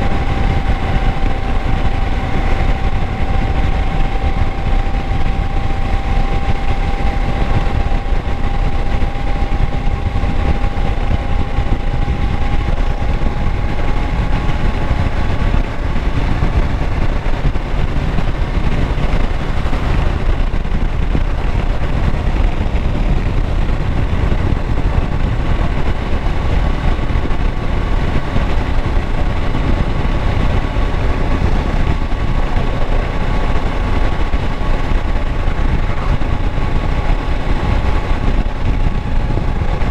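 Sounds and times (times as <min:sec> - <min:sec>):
motorcycle engine running: 0:00.0 - 0:39.9
thin rising whine: 0:00.0 - 0:39.9.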